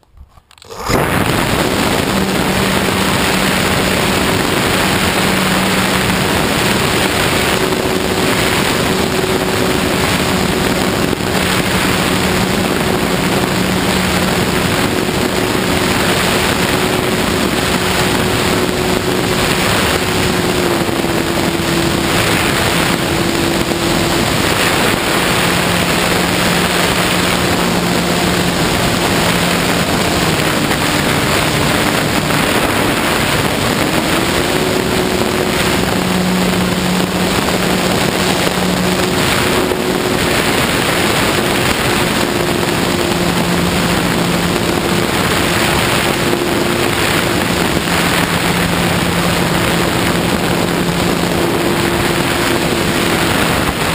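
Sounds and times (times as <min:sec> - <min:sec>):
propeller humming: 0:00.0 - 0:53.9
wind rush over microphone: 0:00.0 - 0:53.9.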